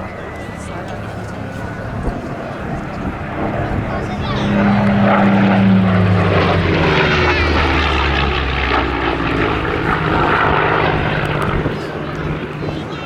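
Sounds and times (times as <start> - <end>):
piston aircraft engine passing: 0.0 - 13.0.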